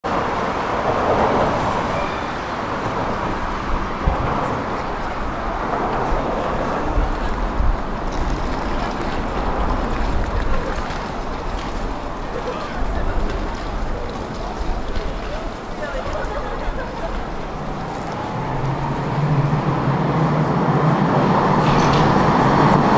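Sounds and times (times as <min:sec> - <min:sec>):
traffic: 0:00.0 - 0:22.9
passers-by: 0:00.1 - 0:22.9.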